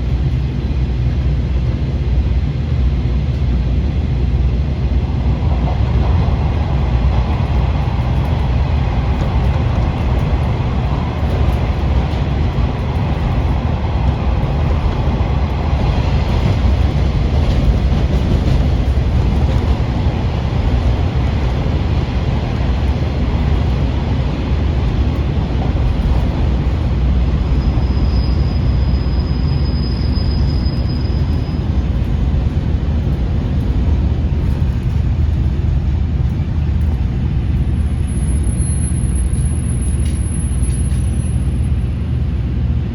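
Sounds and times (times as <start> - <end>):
diesel railcar rumbling: 0.0 - 42.9.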